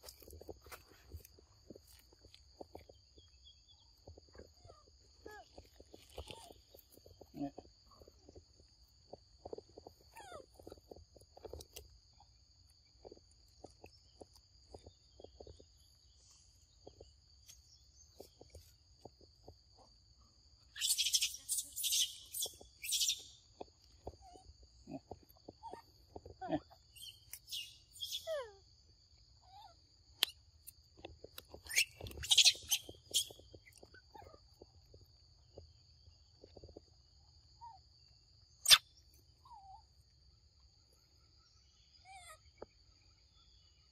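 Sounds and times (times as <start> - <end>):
insect drone: 0.0 - 43.9.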